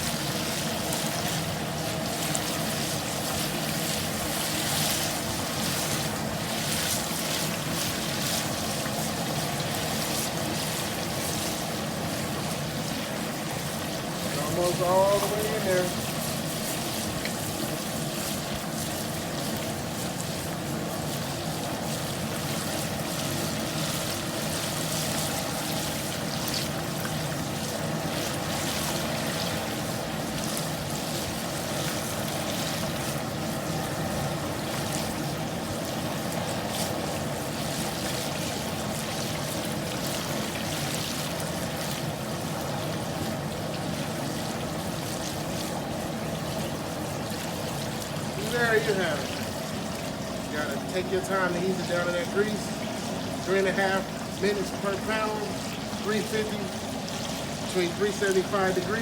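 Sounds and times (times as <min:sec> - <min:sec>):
oil bubbling and sizzling: 0:00.0 - 0:59.0.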